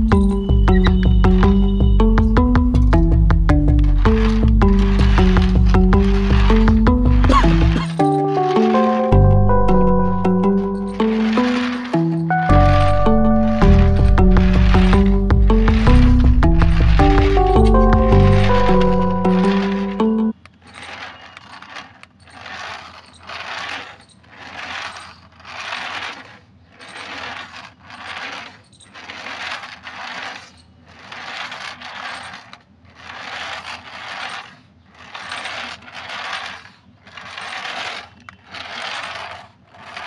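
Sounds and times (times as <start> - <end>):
toy car motor whirring: 0.0 - 9.1, 9.8 - 40.0.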